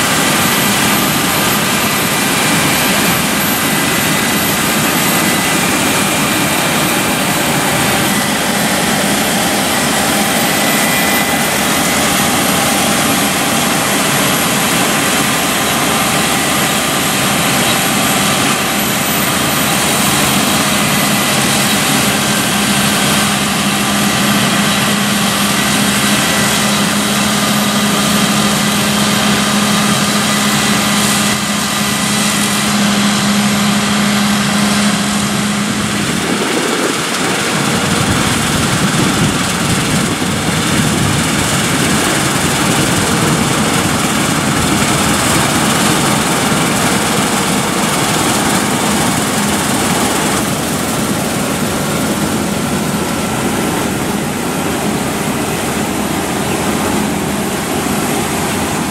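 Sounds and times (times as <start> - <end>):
combine harvester running: 0.0 - 58.9
steady hum: 0.0 - 58.9.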